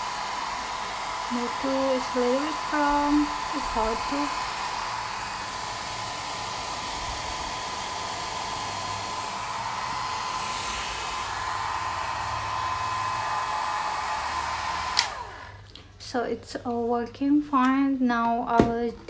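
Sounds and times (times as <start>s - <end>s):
fan motor whine: 0.0s - 15.7s
hair dryer air rush: 0.0s - 15.7s.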